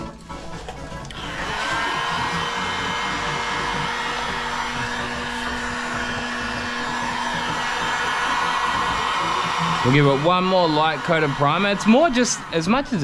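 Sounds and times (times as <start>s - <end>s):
electric blower running: 1.1s - 13.0s.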